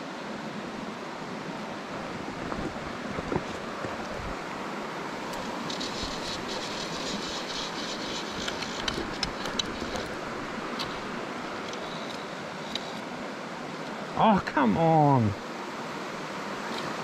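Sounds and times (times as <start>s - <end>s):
stream water flowing over stones: 0.0s - 17.0s.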